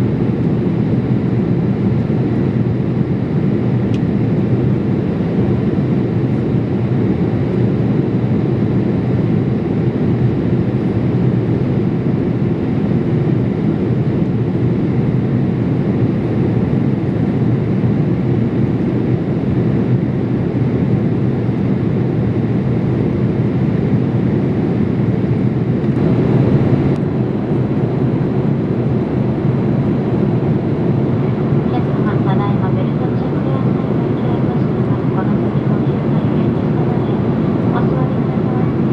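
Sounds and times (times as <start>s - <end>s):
airliner cabin engine rush: 0.0s - 38.9s.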